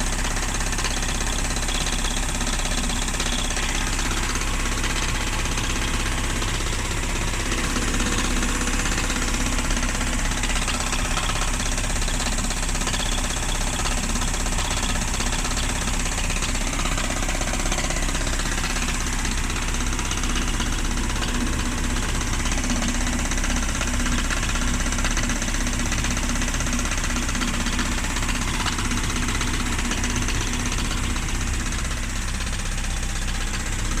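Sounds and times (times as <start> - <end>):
car engine running with knocking: 0.0 - 34.0.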